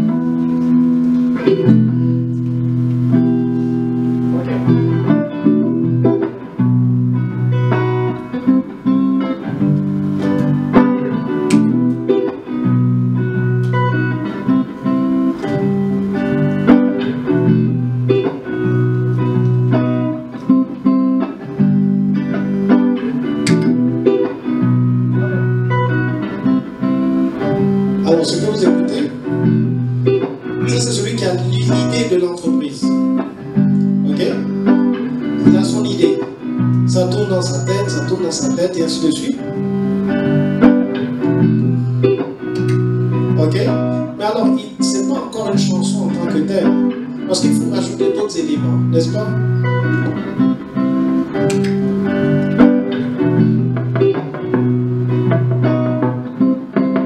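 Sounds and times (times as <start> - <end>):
looped electric guitar: 0.0 - 57.0.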